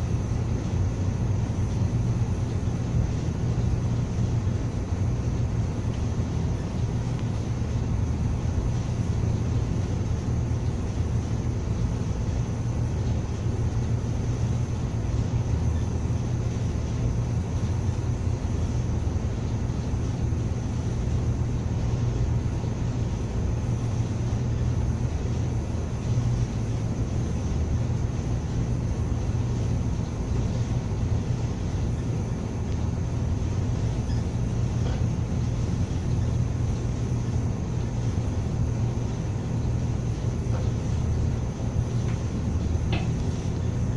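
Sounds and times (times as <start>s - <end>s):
low machinery drone: 0.0s - 43.9s.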